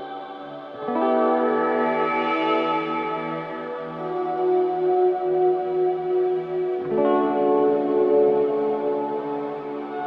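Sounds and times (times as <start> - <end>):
ambient music: 0.0 - 10.0.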